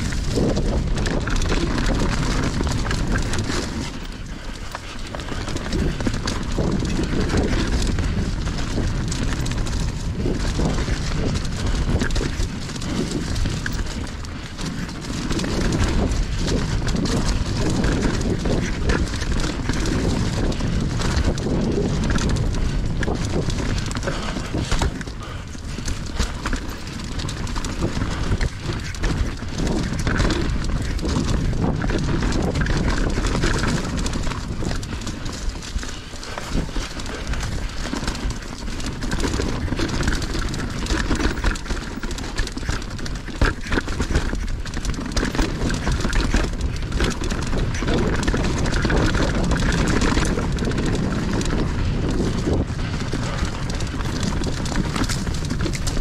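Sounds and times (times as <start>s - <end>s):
bike rattling over bumps: 0.0s - 56.0s
bike tyres rumbling on dirt: 0.0s - 56.0s.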